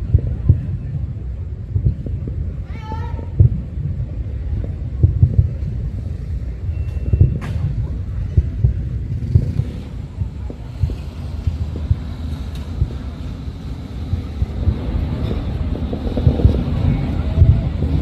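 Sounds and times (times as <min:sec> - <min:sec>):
distant fireworks booming: 0:00.0 - 0:18.0.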